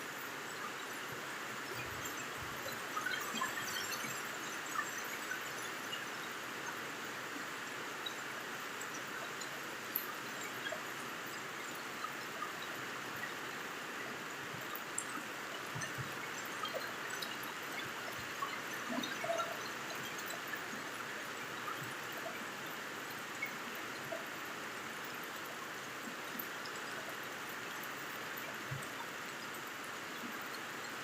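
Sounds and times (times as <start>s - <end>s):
steady rain hiss: 0.0s - 31.0s
small drip ticks: 0.1s - 31.0s.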